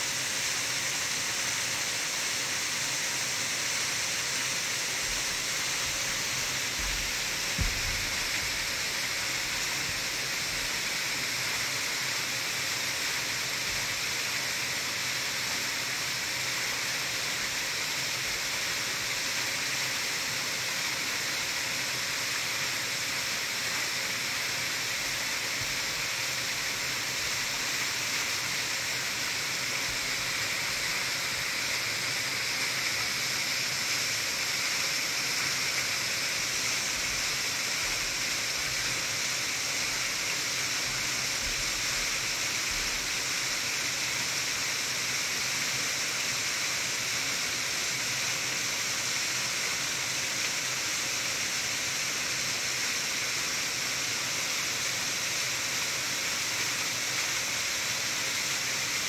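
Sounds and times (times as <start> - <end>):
waterfall rushing: 0.0 - 13.9, 24.2 - 59.0.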